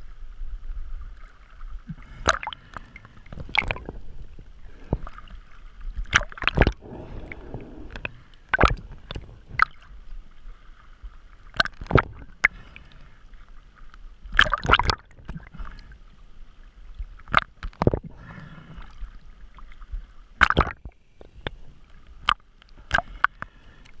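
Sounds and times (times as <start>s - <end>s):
water sloshing and splashing: 0.7s - 24.0s.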